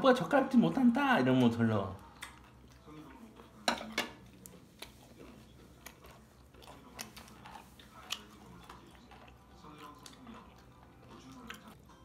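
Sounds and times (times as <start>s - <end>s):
people chewing: 1.4s - 12.0s.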